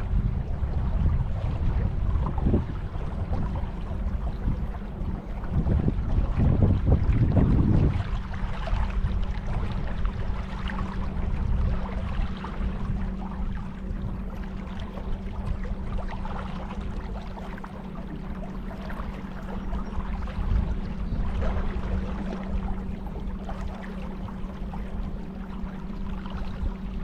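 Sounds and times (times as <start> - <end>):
steady low hum: 0.0 - 27.0
water splashing around a kayak: 0.0 - 27.0.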